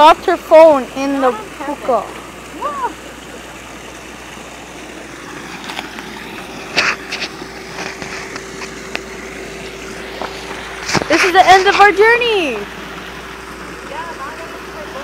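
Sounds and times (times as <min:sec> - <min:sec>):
stream and small waterfall rushing: 0:00.0 - 0:15.0.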